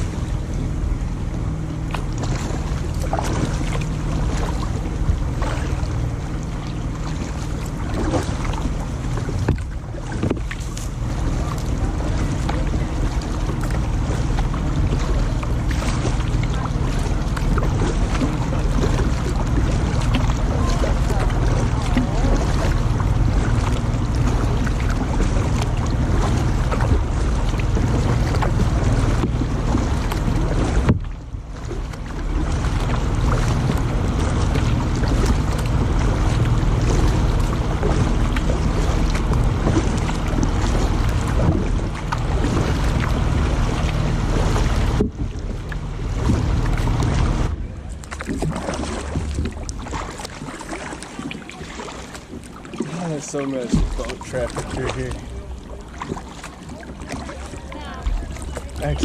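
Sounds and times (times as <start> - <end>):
wind on microphone: 0.0 - 50.4
motorboat engines rumbling: 0.0 - 59.0
water rushing: 0.0 - 59.0.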